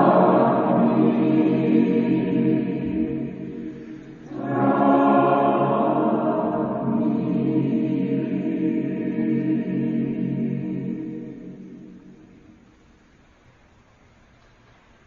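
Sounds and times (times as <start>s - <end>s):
choir singing: 0.0s - 12.6s.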